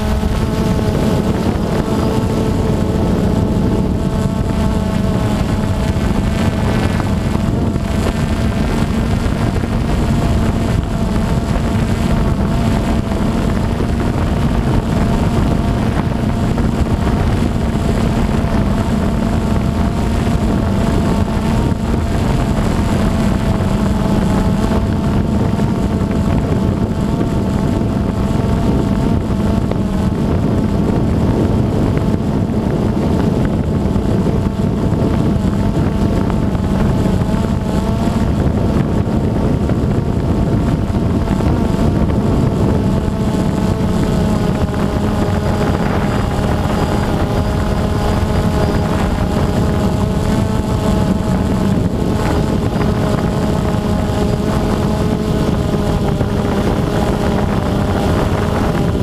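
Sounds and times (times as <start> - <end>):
drone motors whining: 0.0 - 59.0
rush of air: 0.0 - 59.0.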